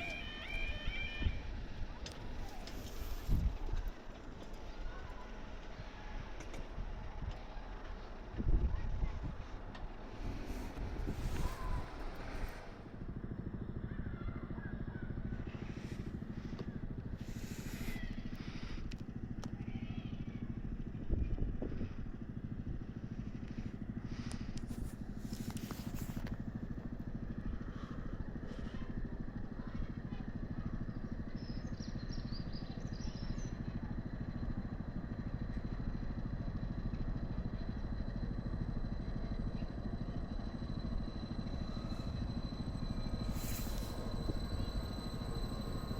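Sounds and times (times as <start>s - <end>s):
engine rumble: 0.0s - 45.9s.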